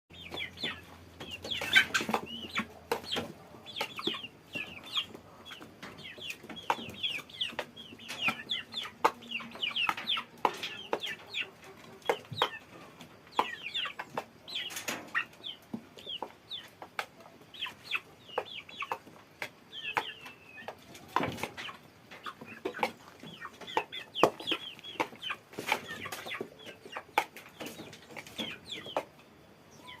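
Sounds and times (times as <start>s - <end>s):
chickens clucking: 0.1s - 30.0s.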